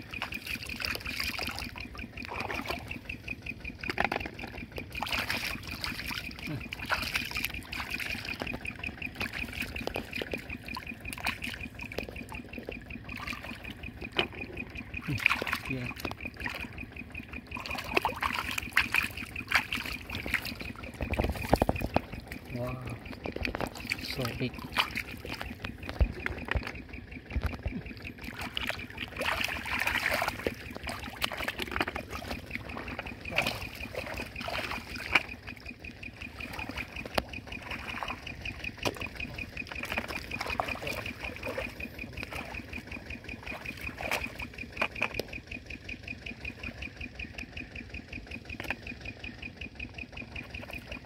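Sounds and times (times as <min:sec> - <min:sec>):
muddy water splashing: 0:00.0 - 0:47.0.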